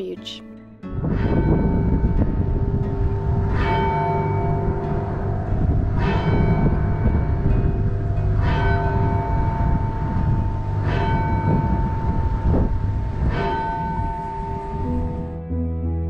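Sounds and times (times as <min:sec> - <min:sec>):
large tower bell striking: 0:01.0 - 0:15.3
steady low rumble: 0:01.0 - 0:15.7.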